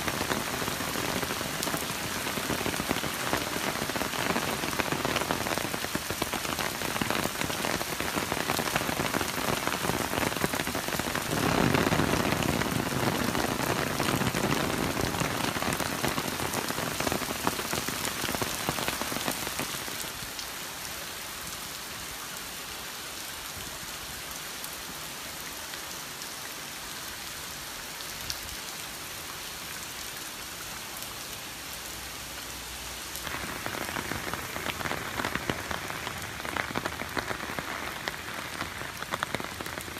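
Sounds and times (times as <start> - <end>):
heavy rain splashing on pavement: 0.0 - 39.9.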